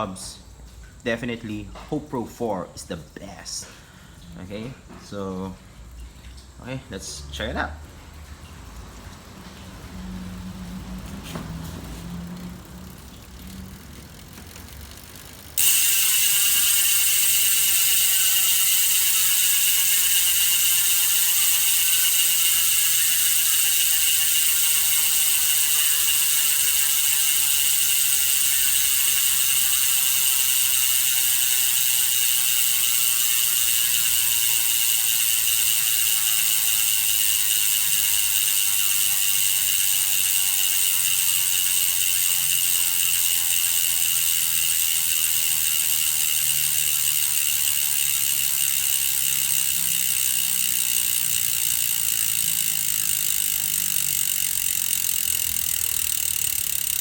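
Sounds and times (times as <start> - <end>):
bicycle hub ratcheting buzz: 0.0 - 57.0.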